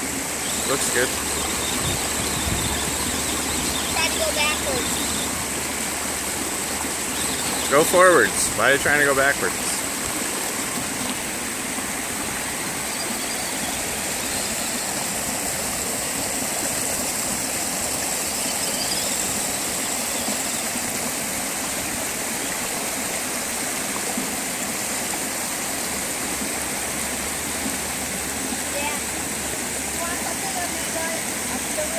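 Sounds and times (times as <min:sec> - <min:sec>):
river rushing over rock: 0:00.0 - 0:31.9.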